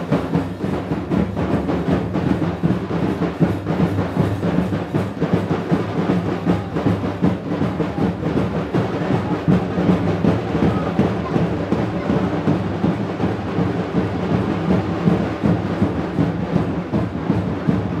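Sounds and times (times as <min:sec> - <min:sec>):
drum-heavy music: 0:00.0 - 0:18.0.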